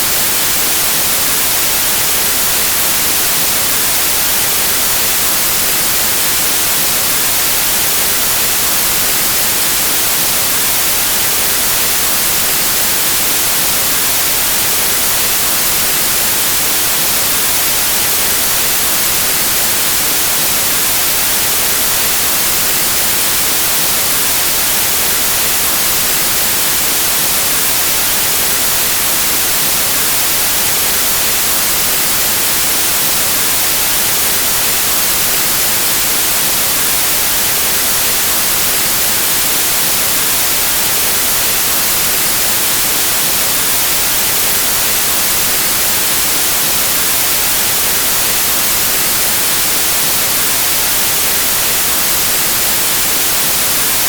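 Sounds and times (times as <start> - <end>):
white noise static hiss: 0.0 - 54.0.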